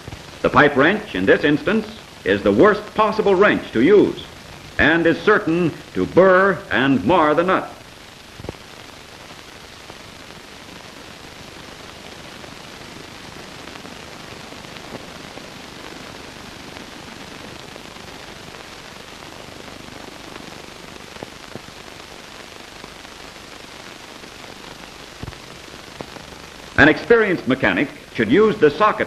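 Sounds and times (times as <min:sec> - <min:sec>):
film soundtrack hiss and static: 0:00.0 - 0:29.0.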